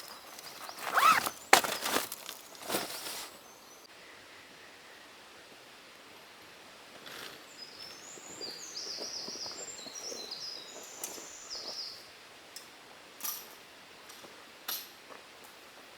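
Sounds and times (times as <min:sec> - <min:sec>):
background hiss: 0:00.0 - 0:15.9.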